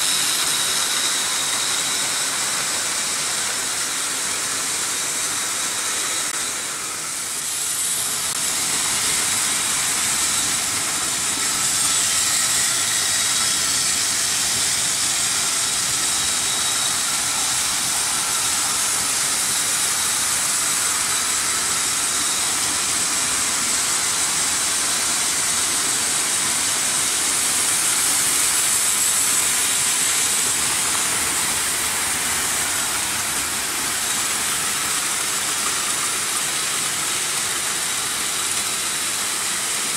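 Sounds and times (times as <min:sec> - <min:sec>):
faint motor whine: 0:00.0 - 0:39.9.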